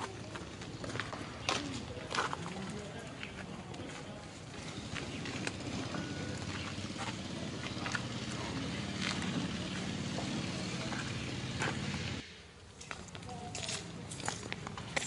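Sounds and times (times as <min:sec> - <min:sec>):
motor engine running: 0:00.0 - 0:12.3.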